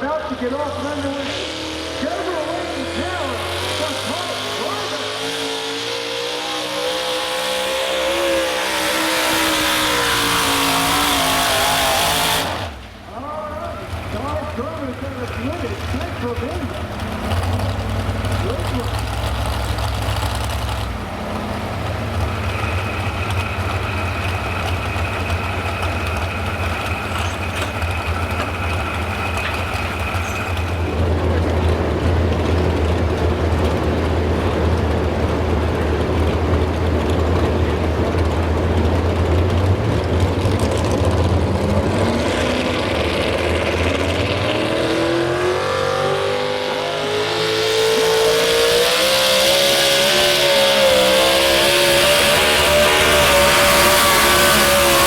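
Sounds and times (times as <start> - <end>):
truck engine running under load: 0.0 - 55.0.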